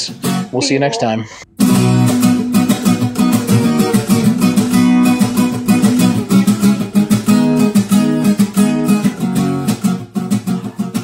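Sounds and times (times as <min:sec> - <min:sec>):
strummed guitar: 0:00.0 - 0:11.0.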